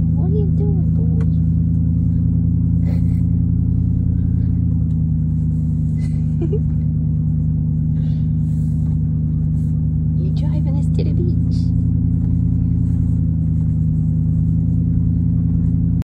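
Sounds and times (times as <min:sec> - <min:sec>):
engine drone: 0:00.0 - 0:16.0
road noise: 0:00.0 - 0:16.0.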